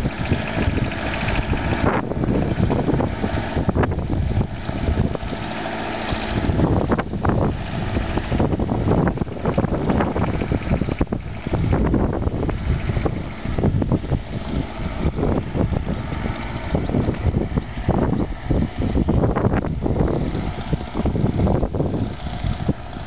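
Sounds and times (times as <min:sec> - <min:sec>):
distant tractor engine running: 0:00.0 - 0:23.0
wind buffeting the microphone: 0:00.0 - 0:23.0.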